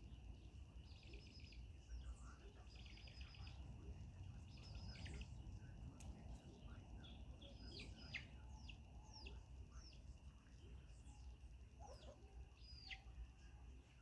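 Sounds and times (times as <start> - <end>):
faint bird chirps: 0.0 - 5.8, 6.5 - 14.0.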